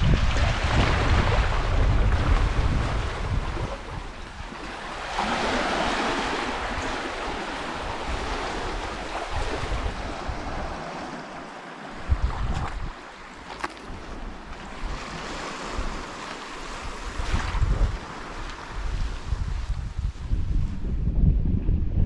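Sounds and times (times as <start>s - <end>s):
small waves washing onto beach: 0.0s - 20.4s
wind gusting on microphone: 0.0s - 22.0s.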